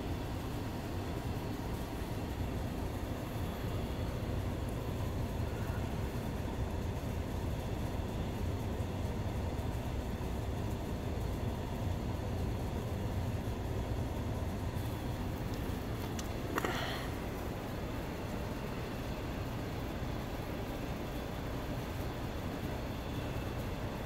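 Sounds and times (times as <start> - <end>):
pump low hum: 0.0 - 24.0.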